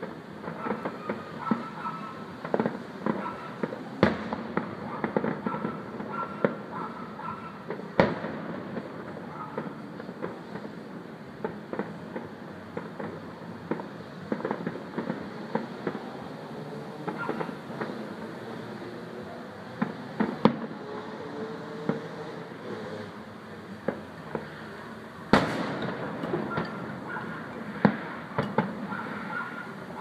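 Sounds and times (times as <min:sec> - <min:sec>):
firework pops and crackles: 0:00.0 - 0:30.0
loud firework bangs: 0:00.0 - 0:30.0.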